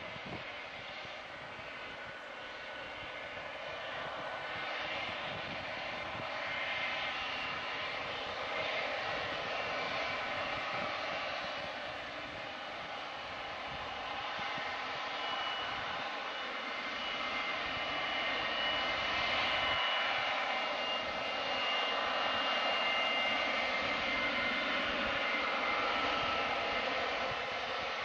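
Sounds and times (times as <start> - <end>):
jet engines rushing and whining: 0.0 - 28.0.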